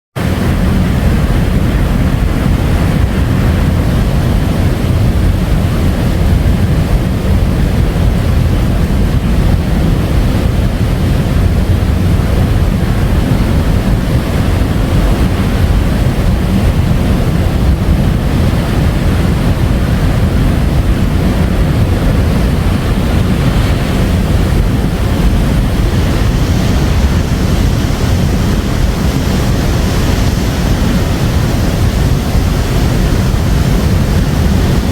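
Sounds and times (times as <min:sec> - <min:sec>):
ocean surf rushing: 0:00.2 - 0:34.9.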